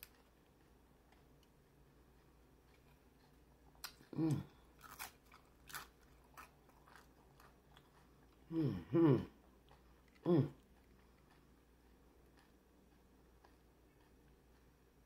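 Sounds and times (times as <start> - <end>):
crunching and chewing chips: 0.0 - 8.5, 9.3 - 15.0.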